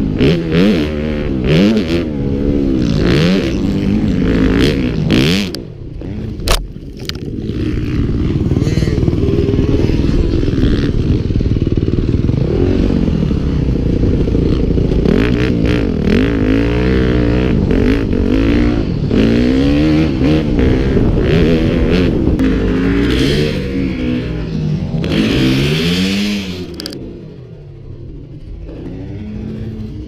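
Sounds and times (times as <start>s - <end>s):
motocross bike engine revving: 0.0s - 27.6s.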